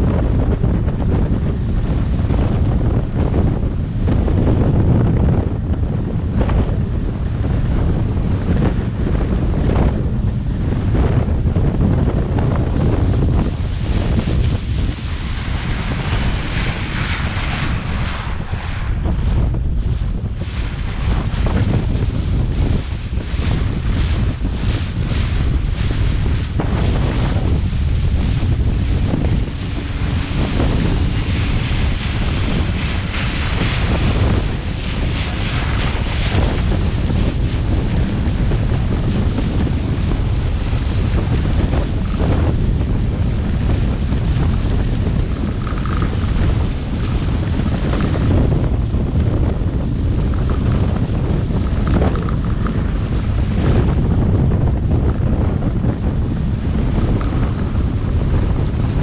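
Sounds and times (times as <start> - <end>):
water rushing along hull: 0.0 - 59.0
wind buffeting microphone: 0.0 - 59.0.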